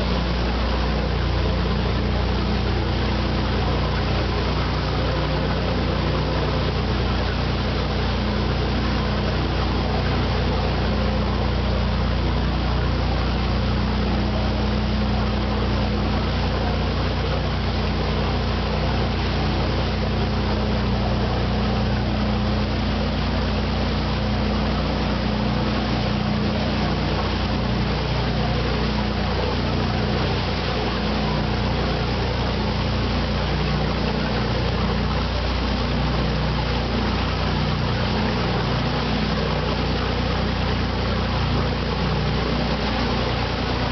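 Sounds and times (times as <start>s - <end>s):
boat engine droning: 0.0s - 43.9s
wake water rushing: 0.0s - 43.9s.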